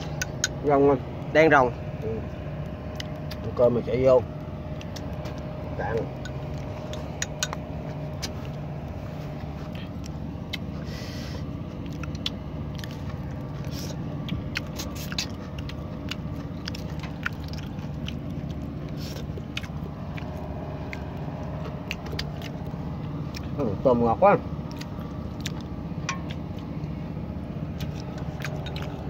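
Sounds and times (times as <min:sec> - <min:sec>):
chewing and crunching shrimp: 0:00.0 - 0:29.0
low engine hum: 0:00.0 - 0:29.0.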